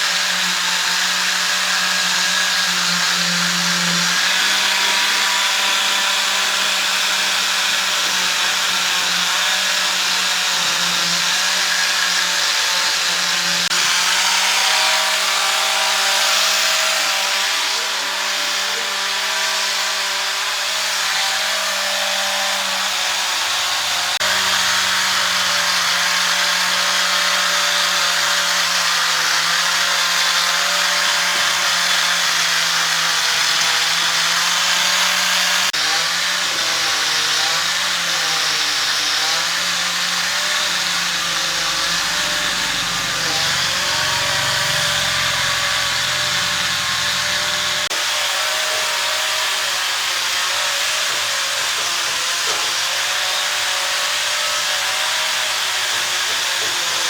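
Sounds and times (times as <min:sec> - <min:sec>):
power tool grinding wood: 0:00.0 - 0:57.0.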